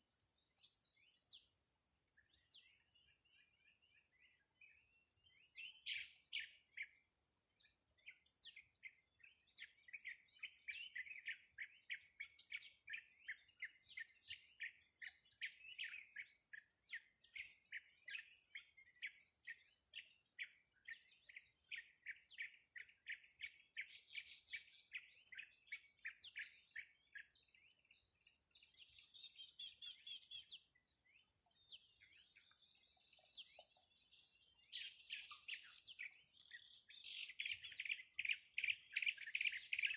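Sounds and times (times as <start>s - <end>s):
small songbird chirping: 0.0s - 39.9s.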